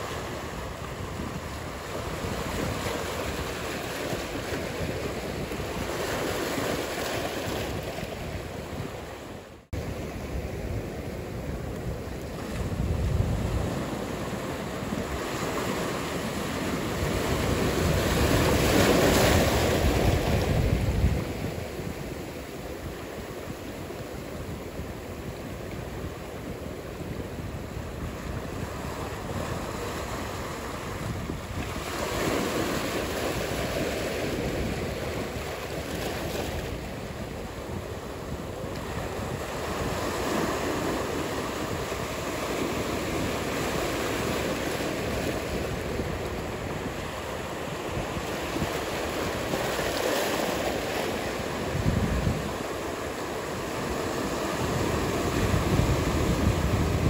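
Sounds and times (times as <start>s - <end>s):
ocean surf breaking: 0.0s - 57.0s
wind on microphone: 0.0s - 57.0s.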